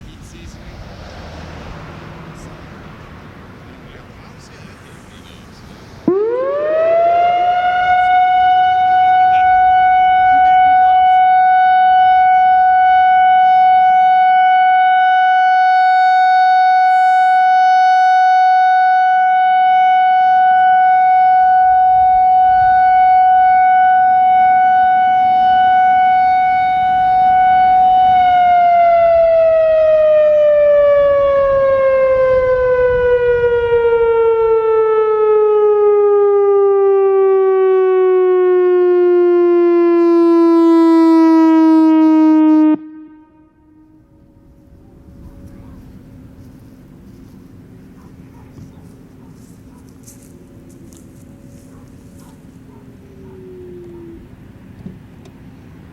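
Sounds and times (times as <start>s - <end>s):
electronic warning siren: 3.7s - 54.7s.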